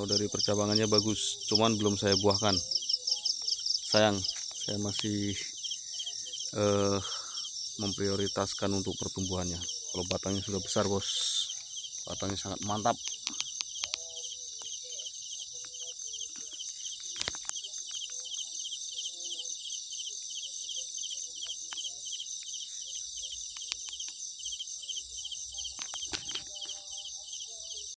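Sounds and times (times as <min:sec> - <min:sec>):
faint scattered chirps: 0:00.0 - 0:28.0
night insects pulsing trill: 0:00.0 - 0:28.0.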